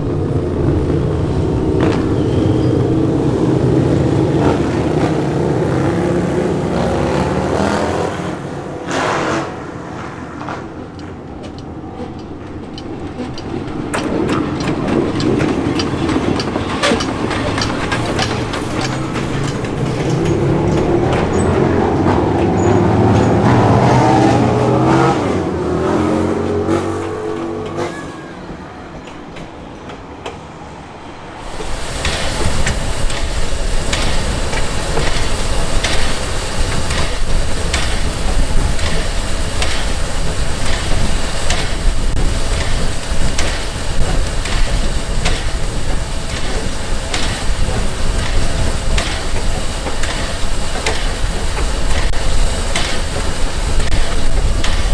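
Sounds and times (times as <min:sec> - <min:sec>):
railway carriages rolling past: 0:00.0 - 0:54.9
steam locomotive running: 0:00.0 - 0:54.9.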